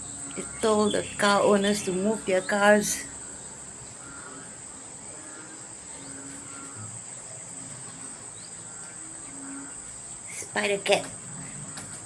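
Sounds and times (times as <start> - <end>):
frogs calling: 0.0 - 12.0
night insects chorus: 0.0 - 12.0.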